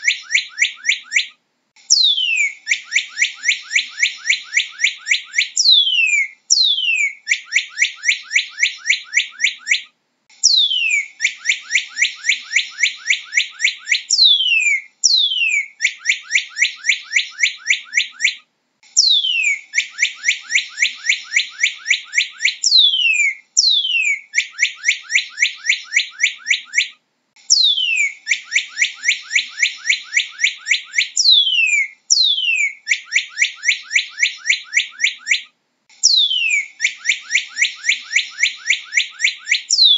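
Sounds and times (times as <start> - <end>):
bird singing whistled phrases: 0.0 - 1.3, 1.9 - 18.4, 19.0 - 39.9.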